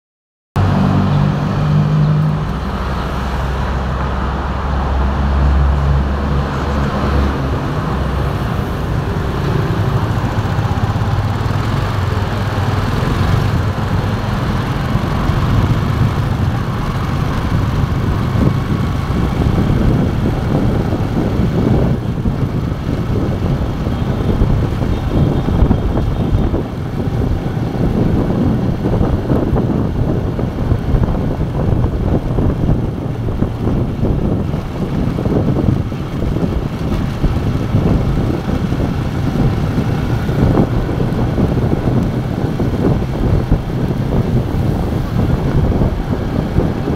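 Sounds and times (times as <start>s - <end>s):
city traffic and road noise: 0.6s - 46.9s
motorcycle engine running: 6.2s - 46.9s.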